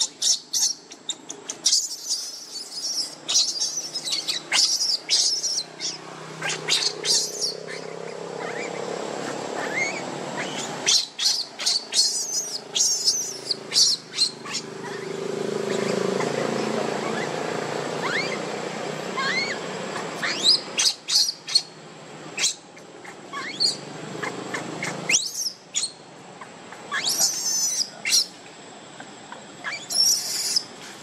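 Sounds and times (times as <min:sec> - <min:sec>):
baby monkey crying: 0:00.0 - 0:21.8, 0:22.4 - 0:30.8.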